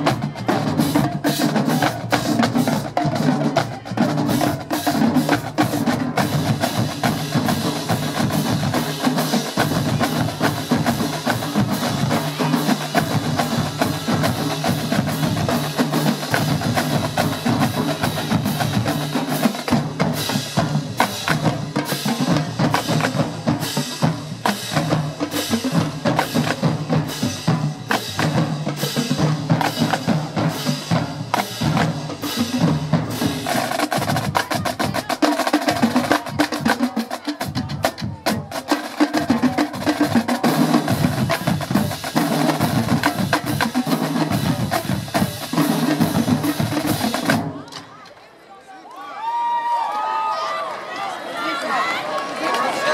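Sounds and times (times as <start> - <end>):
marching drumline playing: 0.0 - 47.9.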